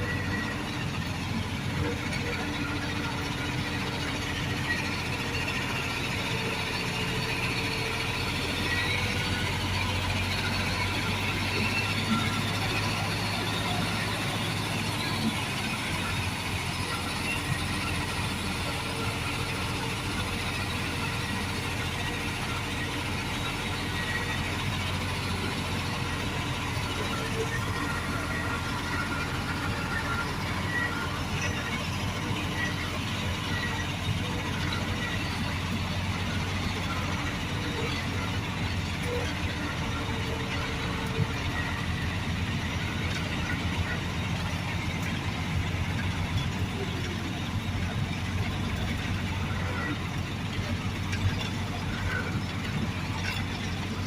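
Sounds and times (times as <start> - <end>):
heavy machinery engine running: 0.0 - 54.0.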